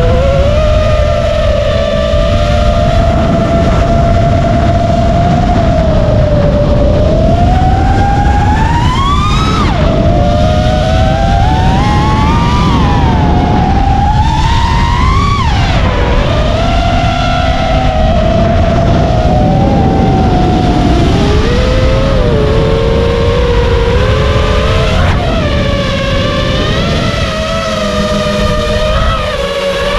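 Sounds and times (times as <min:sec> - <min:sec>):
quadcopter motors whining: 0:00.0 - 0:29.9
wind rumble on microphone: 0:00.0 - 0:29.9.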